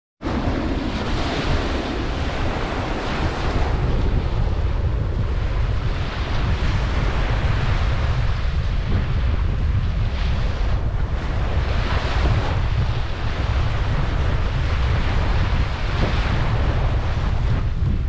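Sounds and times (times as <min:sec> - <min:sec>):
ocean surf breaking: 0:00.2 - 0:18.0
wind rumble on microphone: 0:00.2 - 0:18.0.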